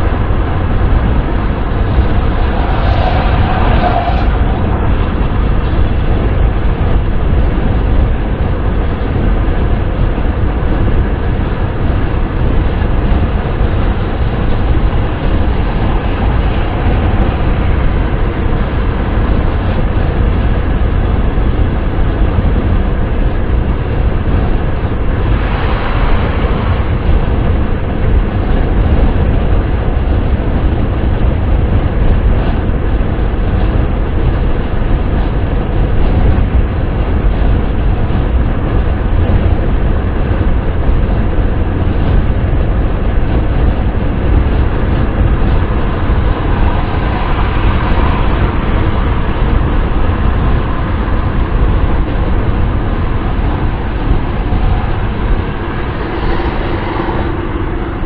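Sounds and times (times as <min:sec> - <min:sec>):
car wind and road noise: 0:00.0 - 0:58.0.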